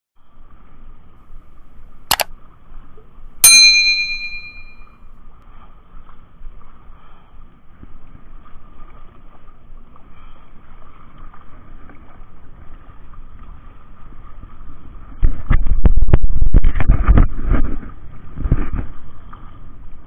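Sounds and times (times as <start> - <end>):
low rumble of wind and water: 0.2 - 20.0.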